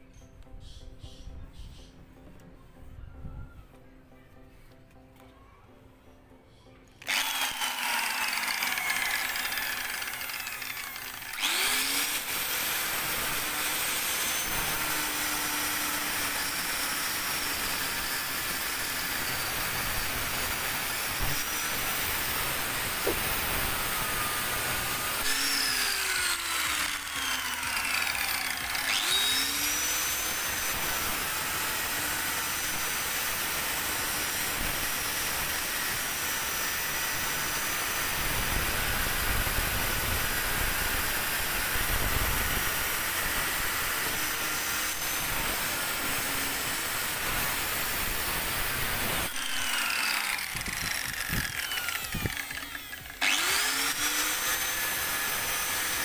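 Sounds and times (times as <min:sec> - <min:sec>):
angle grinder cutting steel: 0:07.0 - 0:56.0.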